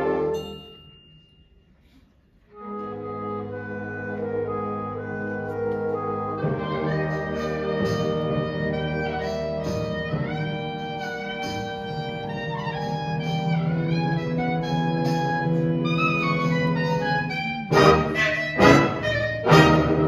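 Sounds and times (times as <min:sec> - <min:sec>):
concert band playing: 0:02.9 - 0:20.0.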